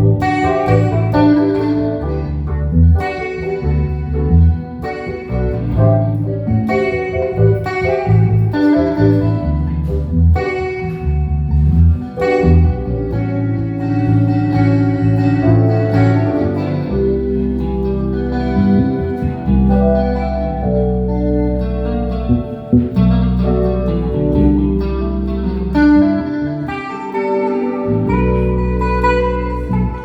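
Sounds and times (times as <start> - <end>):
bass line: 0.0 - 30.0
keyboard chords: 0.0 - 30.0.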